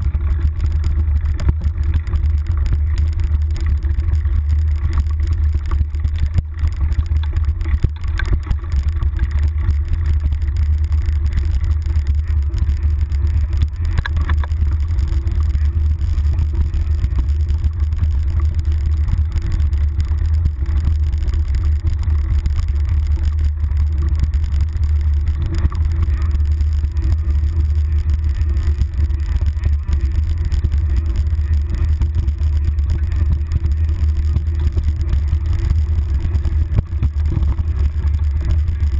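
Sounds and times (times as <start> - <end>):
bike trail vibration rumble: 0.0 - 38.9.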